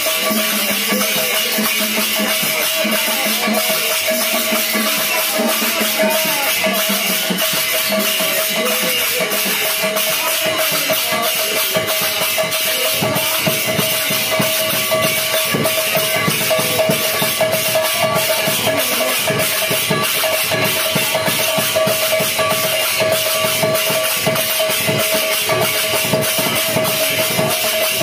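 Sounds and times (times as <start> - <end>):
hand-played barrel drum: 0.0 - 28.0
small brass hand cymbals clashing: 0.0 - 28.0.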